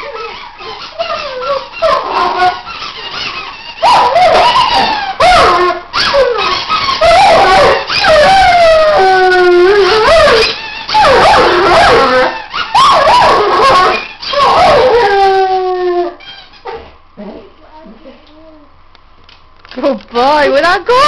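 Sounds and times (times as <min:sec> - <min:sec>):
dog howling: 0:00.0 - 0:16.9.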